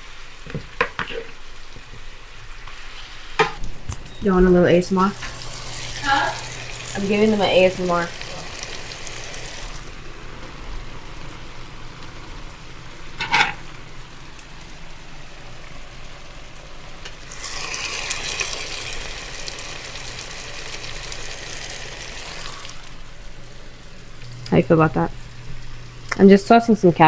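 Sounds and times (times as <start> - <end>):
food sizzling in a frying pan: 0.0 - 3.4, 4.9 - 26.7.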